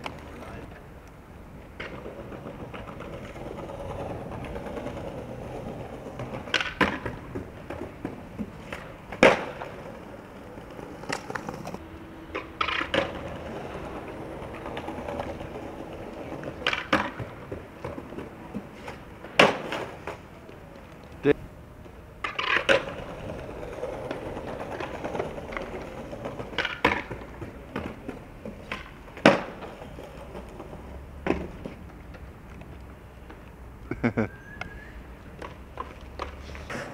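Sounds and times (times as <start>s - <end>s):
skateboard clacking on ground: 0.0s - 33.6s, 34.6s - 36.9s
skateboard wheels rolling on stone: 0.0s - 36.9s.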